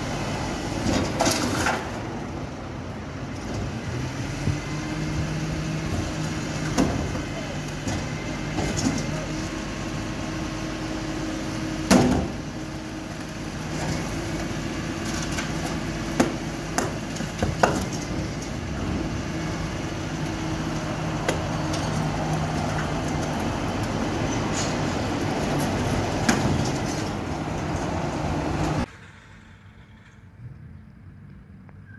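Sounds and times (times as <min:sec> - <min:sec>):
garbage truck hydraulics humming: 0:00.0 - 0:29.6.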